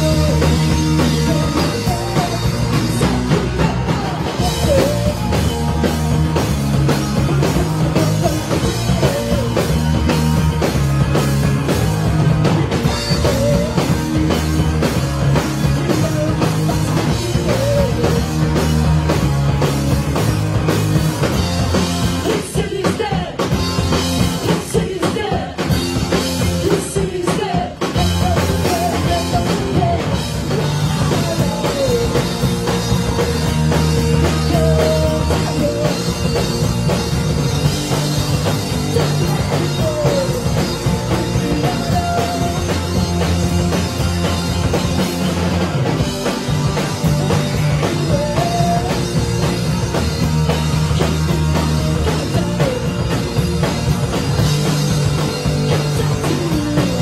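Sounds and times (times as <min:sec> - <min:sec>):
bass line: 0:00.0 - 0:57.0
drum kit: 0:00.0 - 0:57.0
electric guitars: 0:00.0 - 0:57.0.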